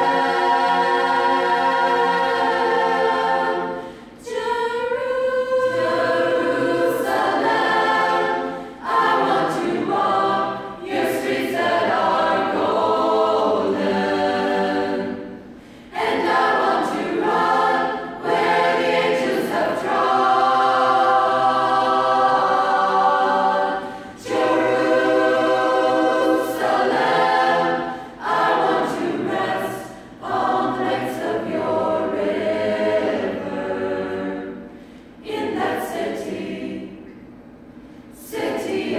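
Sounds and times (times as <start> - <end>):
choir singing a cappella: 0.0 - 38.9.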